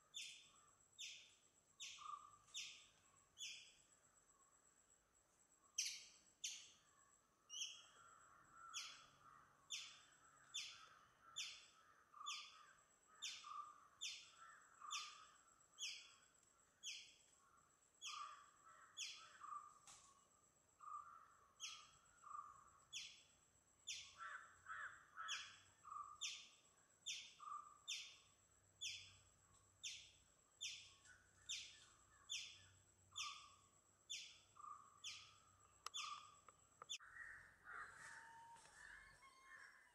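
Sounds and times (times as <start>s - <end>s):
small bird chirping: 0.0s - 3.9s, 5.7s - 6.8s, 7.5s - 8.0s, 9.7s - 17.3s, 18.0s - 20.0s, 20.8s - 39.9s.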